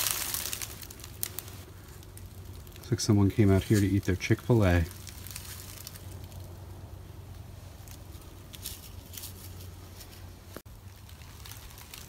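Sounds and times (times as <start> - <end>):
low hum: 0.0 - 11.9
faint crackles and rustles: 0.0 - 12.0.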